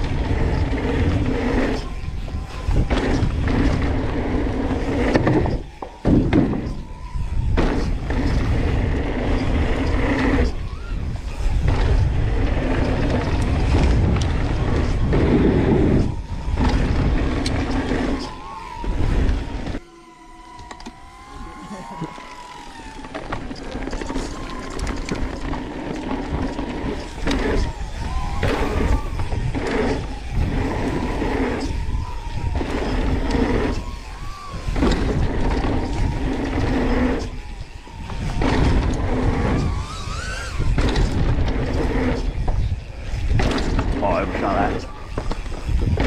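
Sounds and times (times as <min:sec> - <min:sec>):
wind rumble on microphone: 0:00.0 - 0:19.8, 0:20.6 - 0:46.0
bike tyres rolling over dirt: 0:00.0 - 0:46.0.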